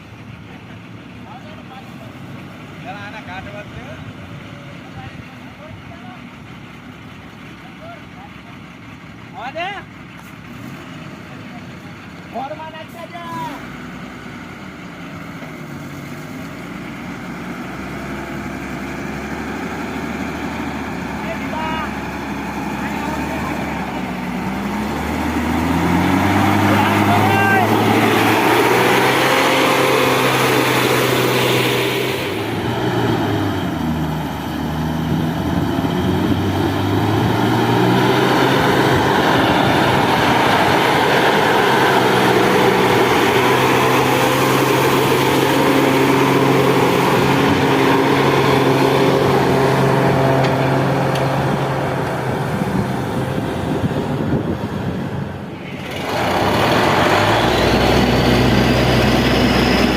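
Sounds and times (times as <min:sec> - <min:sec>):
diesel engine of drilling rig: 0:00.0 - 0:59.9.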